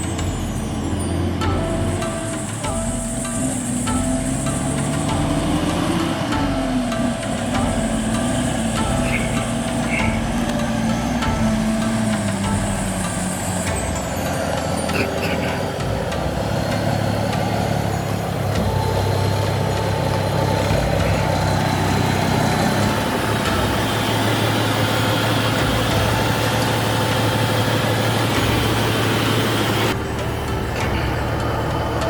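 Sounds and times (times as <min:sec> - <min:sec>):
truck engine humming: 0:00.0 - 0:32.0.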